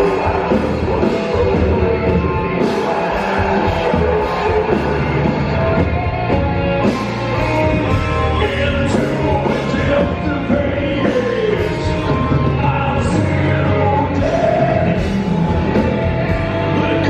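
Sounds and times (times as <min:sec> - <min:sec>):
man singing: 0:00.0 - 0:05.1, 0:08.2 - 0:17.0
metal band playing: 0:00.0 - 0:17.0.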